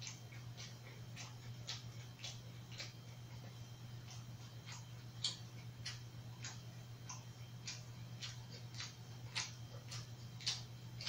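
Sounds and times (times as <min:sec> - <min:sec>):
chewing mouth clicks: 0:00.0 - 0:11.0
steady low hum: 0:00.0 - 0:11.0.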